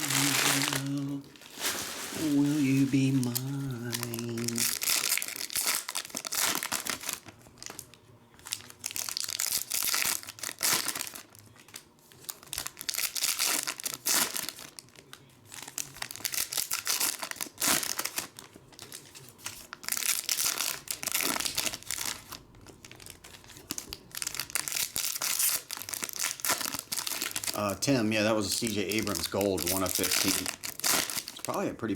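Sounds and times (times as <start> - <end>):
wrappers tearing and crinkling: 0.0 - 31.7.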